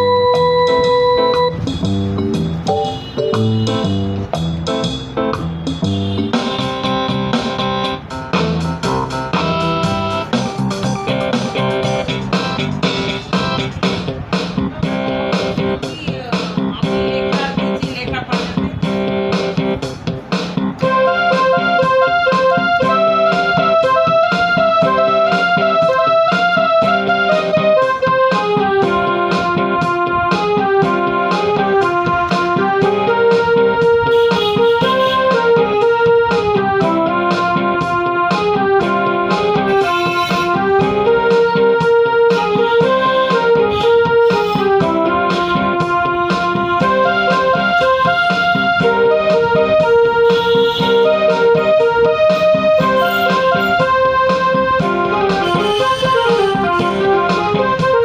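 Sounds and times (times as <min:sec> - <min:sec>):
keyboard piano melody: 0:00.0 - 0:58.0.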